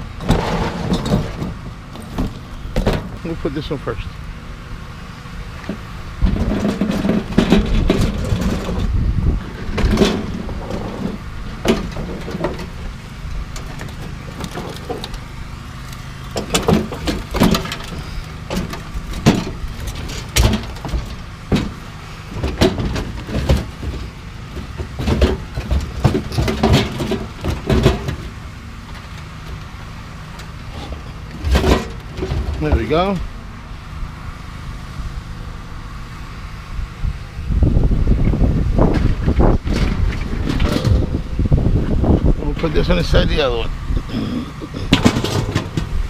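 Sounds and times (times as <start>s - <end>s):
metal grills clanking: 0.0s - 34.4s, 38.3s - 46.0s
vehicle engine running: 0.0s - 46.0s.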